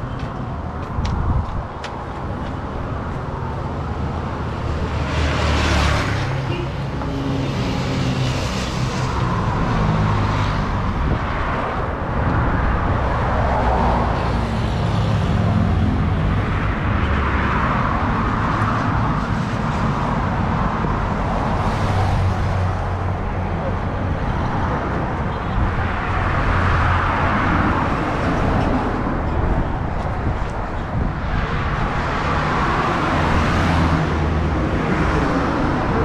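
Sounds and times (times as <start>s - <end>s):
vehicles passing on highway: 0.0s - 36.0s.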